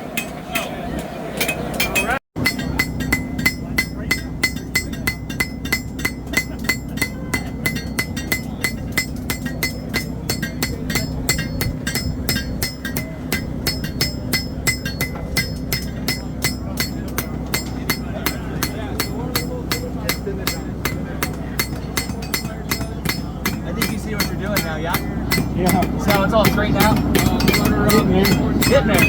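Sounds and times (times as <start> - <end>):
steady low hum: 0.0 - 29.0
hammers ringing on anvils: 1.4 - 29.0.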